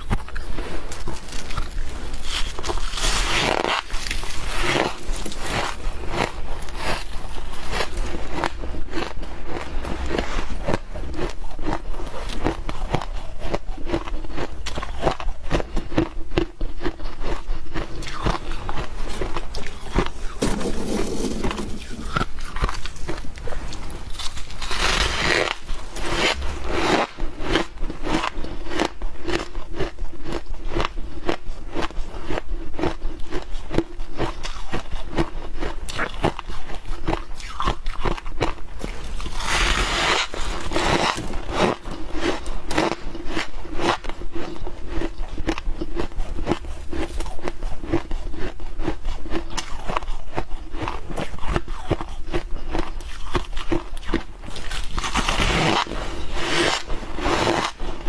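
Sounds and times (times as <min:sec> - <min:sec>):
ice being chewed crunching: 0:00.0 - 0:58.0.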